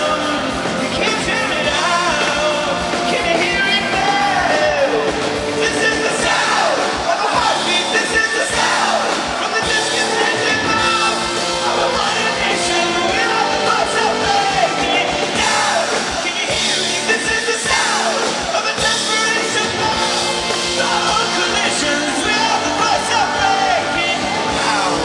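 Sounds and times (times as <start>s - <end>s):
amplified guitars: 0.0s - 25.0s
drums: 0.0s - 25.0s
person singing: 0.0s - 25.0s.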